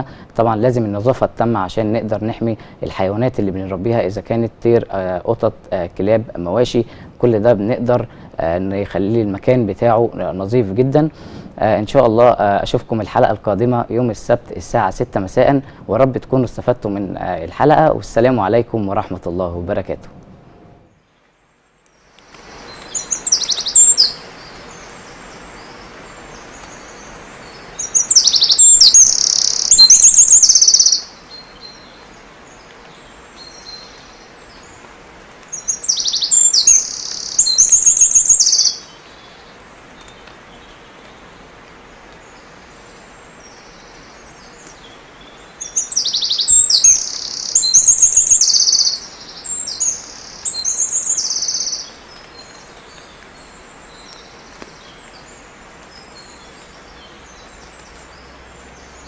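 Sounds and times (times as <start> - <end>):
songbird singing: 0.0 - 20.1, 20.8 - 59.0
outdoor background noise: 0.0 - 59.0.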